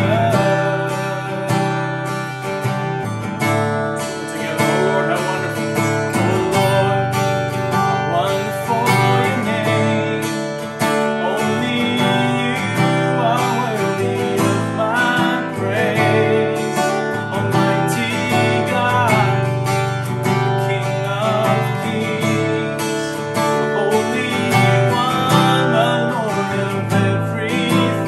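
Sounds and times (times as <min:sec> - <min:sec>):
acoustic guitar strumming: 0:00.0 - 0:28.0
man singing: 0:00.0 - 0:28.0.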